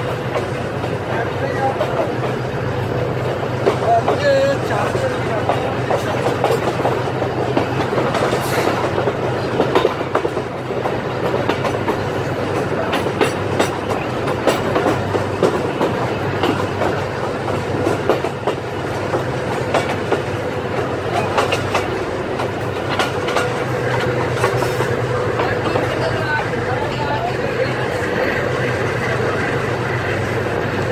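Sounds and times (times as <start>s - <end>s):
train low rumble: 0.0s - 30.9s
wheels clicking over rail joints: 3.6s - 30.9s.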